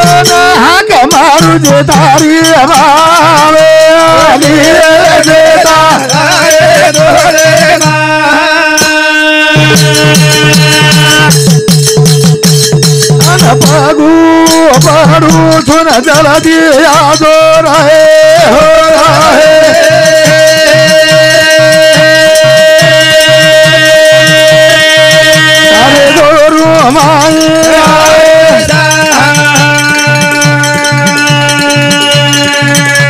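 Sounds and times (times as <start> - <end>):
hand cymbals clashing: 0.0 - 17.9, 18.5 - 33.0
drum beat: 0.0 - 33.0.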